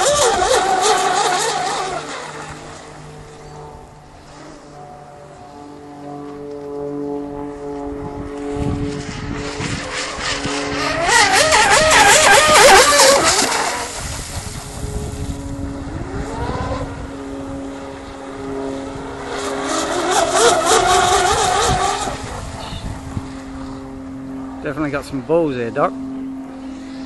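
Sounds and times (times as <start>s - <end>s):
rc boat motor whine: 0.0s - 27.0s.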